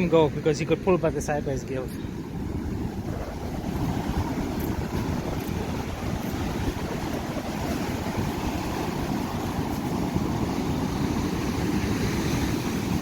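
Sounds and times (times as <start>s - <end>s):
sea surf washing ashore: 0.0s - 13.0s
wind buffeting microphone: 0.0s - 13.0s.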